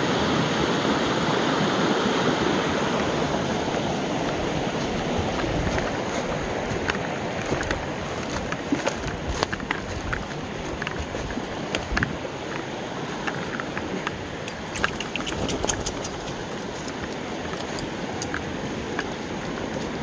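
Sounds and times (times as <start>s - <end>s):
creek rushing: 0.0s - 20.0s.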